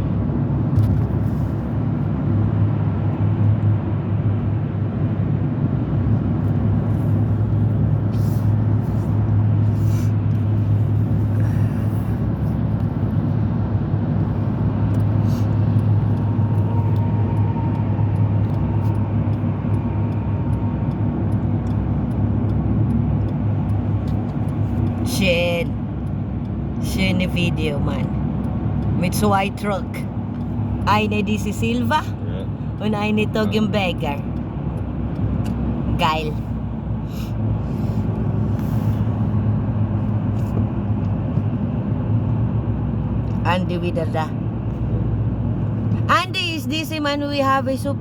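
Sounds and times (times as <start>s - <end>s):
tyre and road noise: 0.0s - 48.0s
vehicle engine hum: 0.0s - 48.0s.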